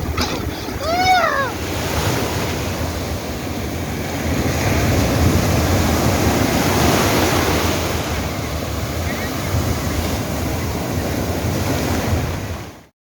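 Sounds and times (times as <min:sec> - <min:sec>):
wind buffeting microphone: 0:00.0 - 0:12.8
sea waves breaking on beach: 0:00.0 - 0:12.9.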